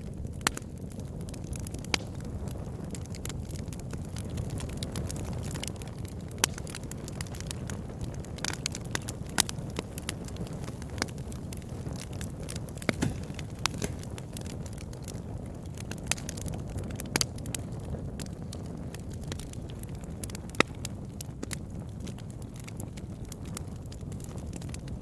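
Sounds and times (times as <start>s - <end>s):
campfire burning: 0.0s - 25.0s
wood crackling and popping: 0.0s - 25.0s.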